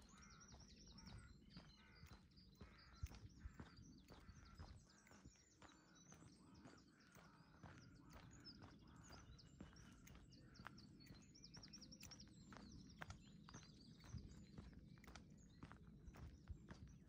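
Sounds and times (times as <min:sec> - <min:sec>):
footsteps on path: 0:00.0 - 0:17.0
songbirds singing: 0:00.0 - 0:17.0.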